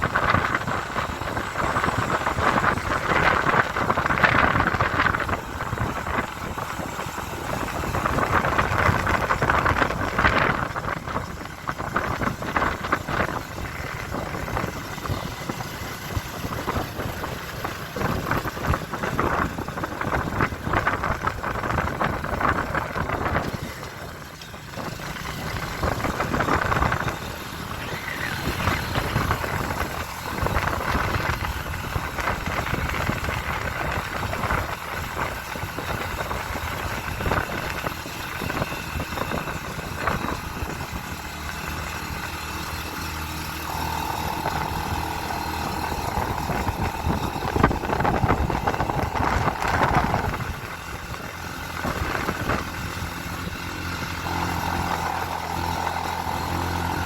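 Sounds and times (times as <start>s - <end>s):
motorcycle engine: 0.0s - 57.0s
wind and road noise: 0.0s - 57.0s.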